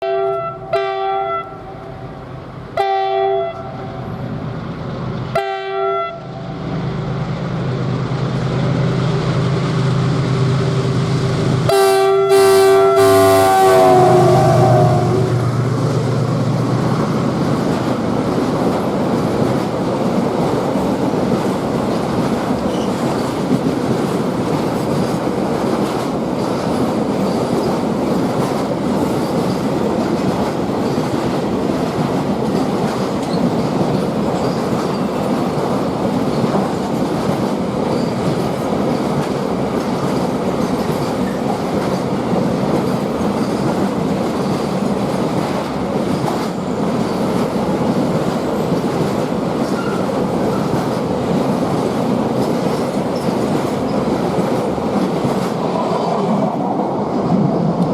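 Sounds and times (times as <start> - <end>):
train wheels rumbling on rails: 1.6 - 57.9.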